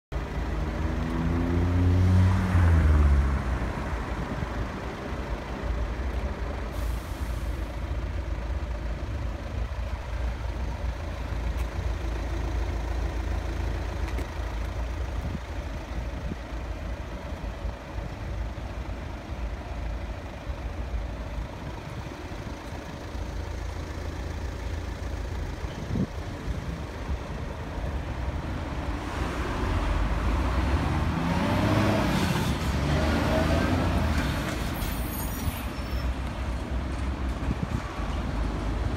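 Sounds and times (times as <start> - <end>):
traffic rumble: 0.1 - 38.9.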